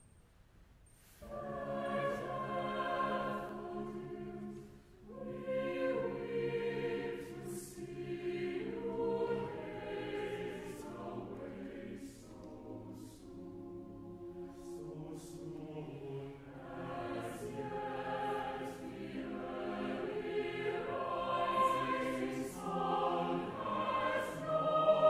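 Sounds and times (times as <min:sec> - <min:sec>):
mixed choir singing unaccompanied: 0:01.2 - 0:25.0.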